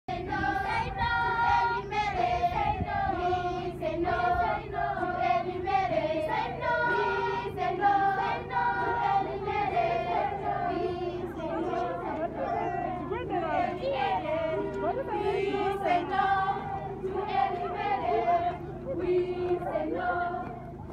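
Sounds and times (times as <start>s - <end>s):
children singing together: 0.1s - 20.9s.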